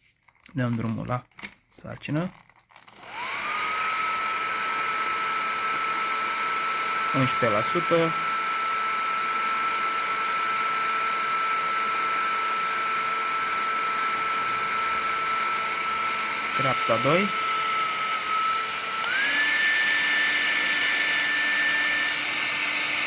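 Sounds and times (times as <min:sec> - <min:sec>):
electric blower motor whine: 0:02.8 - 0:23.0.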